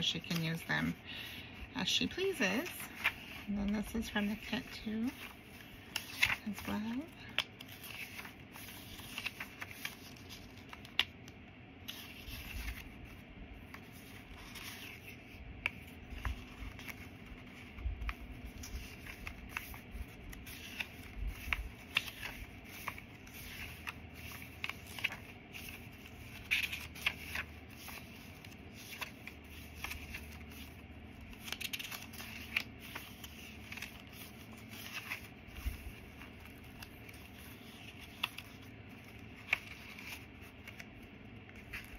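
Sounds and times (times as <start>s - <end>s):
paper rustling and scraping: 1.8s - 41.9s.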